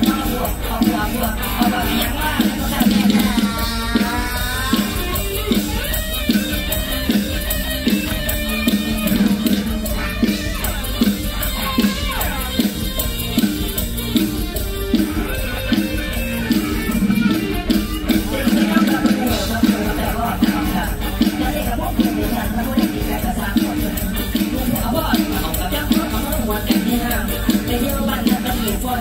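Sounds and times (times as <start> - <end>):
band music through stage speakers: 0.0 - 29.0
person singing: 0.0 - 29.0.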